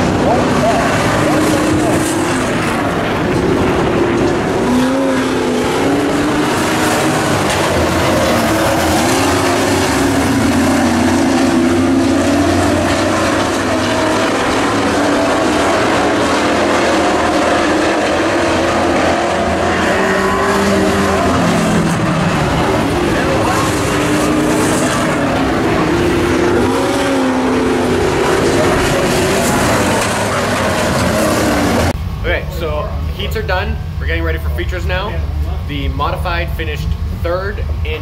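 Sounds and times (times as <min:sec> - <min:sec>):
race truck engines revving: 0:00.0 - 0:38.0.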